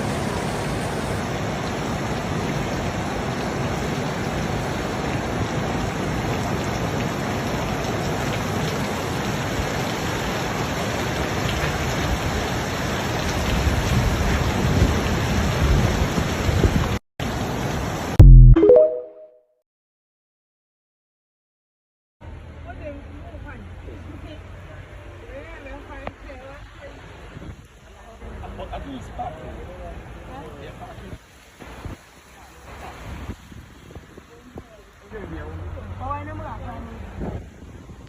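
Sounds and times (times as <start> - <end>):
heavy rain falling: 0.0 - 18.2, 23.9 - 38.0.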